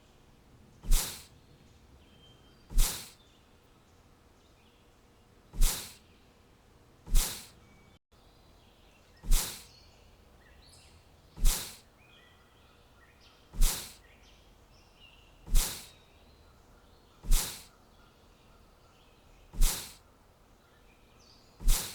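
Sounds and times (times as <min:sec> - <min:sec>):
faint bird chirps: 0:00.0 - 0:06.5, 0:07.1 - 0:21.9.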